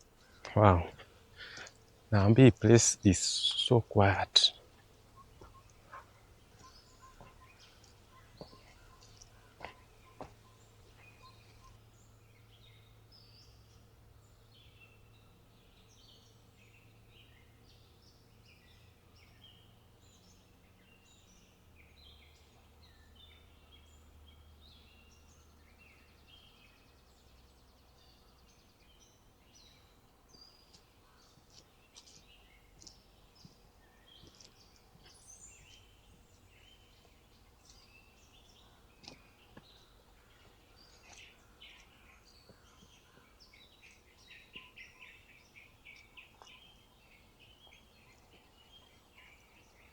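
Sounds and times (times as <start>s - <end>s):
small birds chirping and twittering: 0.0s - 49.9s.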